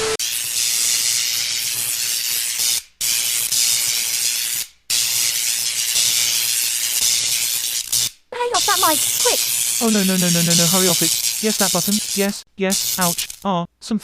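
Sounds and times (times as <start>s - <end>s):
harsh static hiss: 0.0s - 13.5s.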